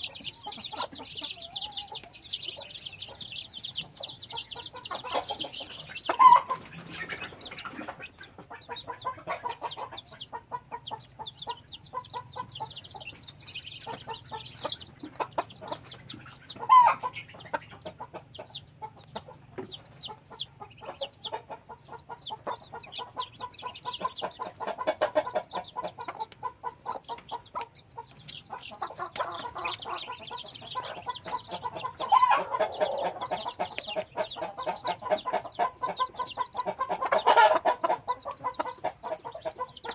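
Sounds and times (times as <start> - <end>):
chickens clucking: 0.0 - 39.9
loud chicken calls: 0.0 - 39.9.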